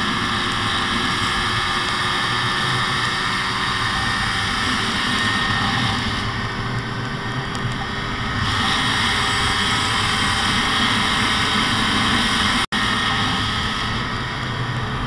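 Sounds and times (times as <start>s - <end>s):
snowmobile engine drone: 0.0s - 15.0s
wind rushing over microphone: 0.0s - 15.0s.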